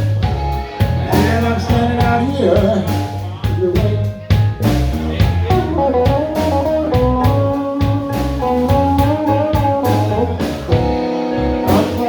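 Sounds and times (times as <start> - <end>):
bass: 0.0 - 12.0
drums keeping a steady beat: 0.0 - 12.0
lead guitar: 0.0 - 12.0.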